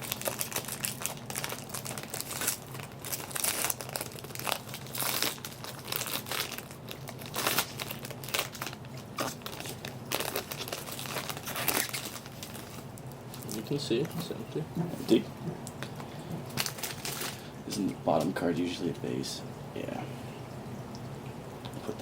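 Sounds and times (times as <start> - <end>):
plastic wrapping crinkling and tearing: 0.0 - 18.0.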